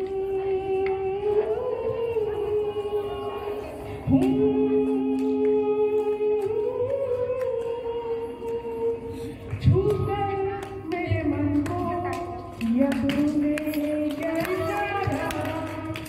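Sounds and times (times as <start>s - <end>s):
woman singing through pa: 0.0s - 16.0s.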